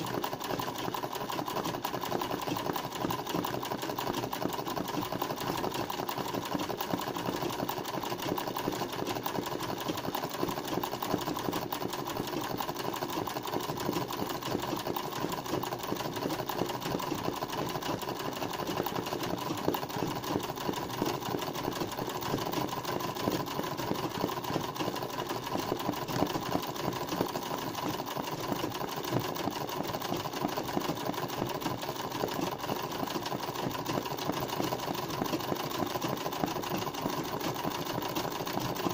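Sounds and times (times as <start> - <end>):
sewing machine running: 0.0 - 38.9.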